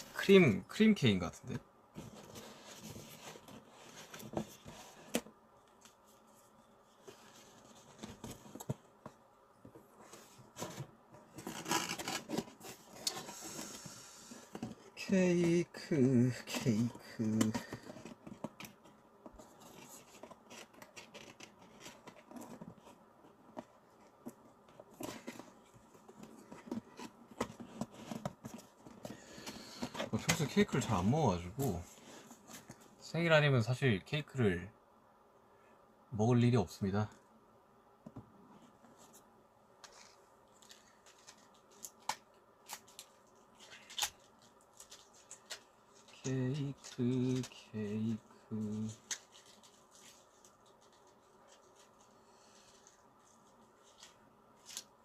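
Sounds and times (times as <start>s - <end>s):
clicks and rustles of handling: 1.4s - 15.6s, 16.4s - 33.0s, 38.1s - 55.0s.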